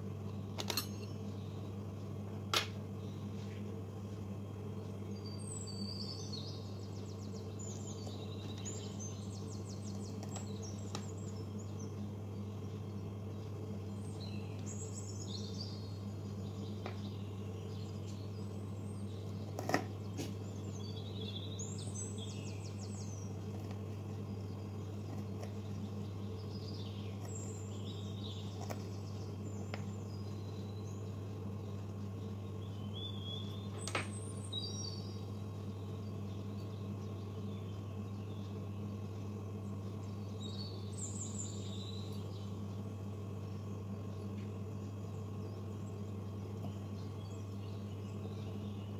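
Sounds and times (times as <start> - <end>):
small birds chirping: 0.0 - 48.9
steady low hum: 0.0 - 48.9.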